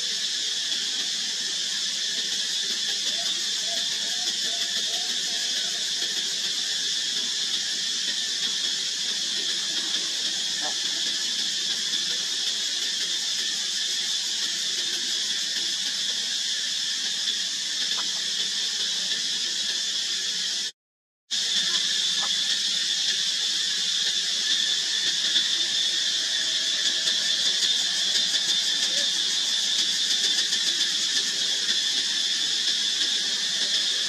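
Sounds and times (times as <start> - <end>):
insect chorus drone: 0.0 - 20.7, 21.3 - 34.0.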